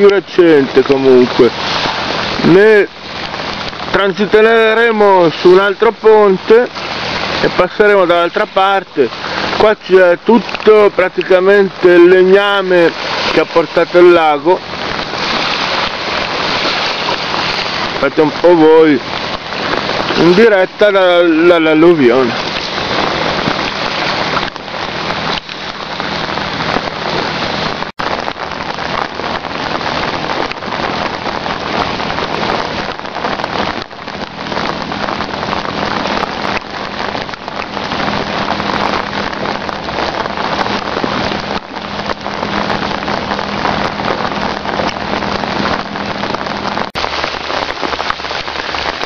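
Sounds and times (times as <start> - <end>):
heavy rain falling: 0.0 - 49.0
raindrops ticking near microphone: 0.0 - 49.0.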